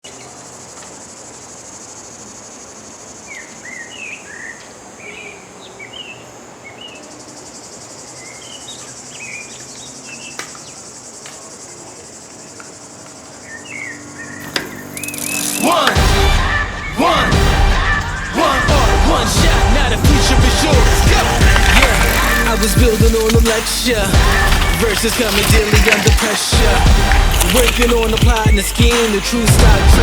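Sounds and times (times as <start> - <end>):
insect chorus: 0.0 - 30.0
bird chirping: 3.2 - 11.1, 12.4 - 17.2, 17.8 - 29.5.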